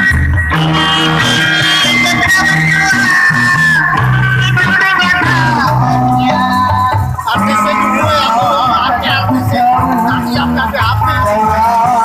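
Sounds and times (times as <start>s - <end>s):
bass line: 0.0s - 12.0s
held melody line: 0.0s - 12.0s.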